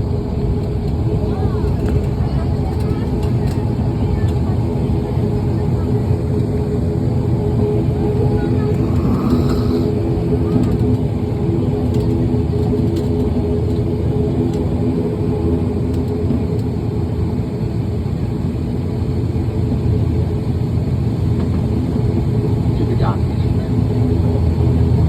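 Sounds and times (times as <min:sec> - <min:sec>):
aircraft engine rumble: 0:00.0 - 0:25.0
steady engine hums: 0:00.0 - 0:25.0.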